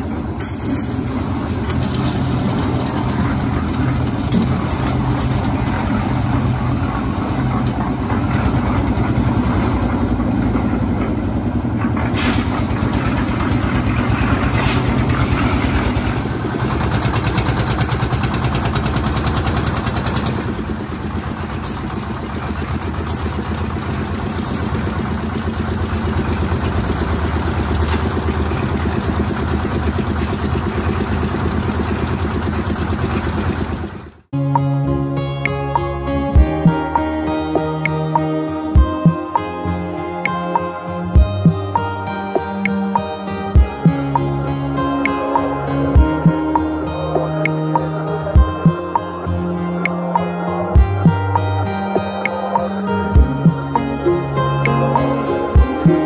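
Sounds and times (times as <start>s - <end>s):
concrete mixer engine running: 0.0s - 34.3s, 43.2s - 56.0s.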